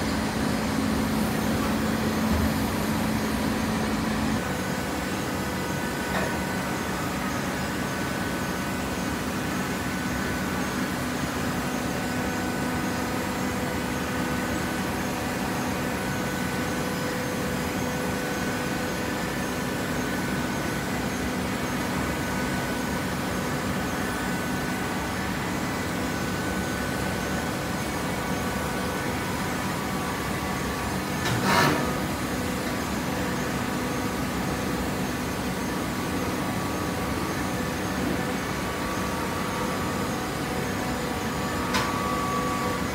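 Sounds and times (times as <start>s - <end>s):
hydraulic power unit humming: 0.0s - 42.9s.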